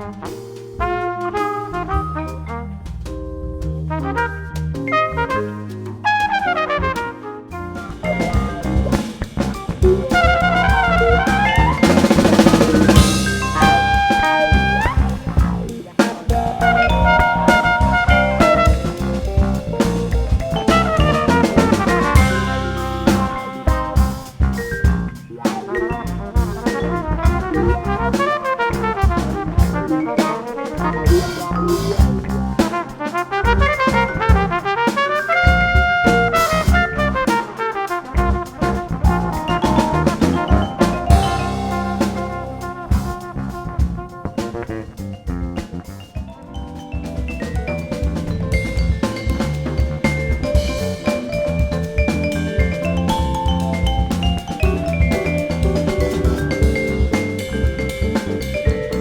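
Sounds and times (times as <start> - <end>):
electric bass: 0.0 - 30.1, 30.7 - 32.7, 33.4 - 34.7, 35.5 - 37.3, 38.2 - 59.0
brass line: 0.0 - 46.3, 47.9 - 59.0
keyboards: 0.0 - 59.0
live jazz band playing: 0.0 - 59.0
drum kit hits: 4.8 - 59.0.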